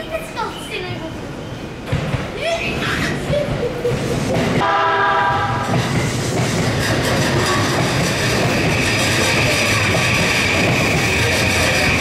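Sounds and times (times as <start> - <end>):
train rumble and wheel clatter: 0.0 - 12.0.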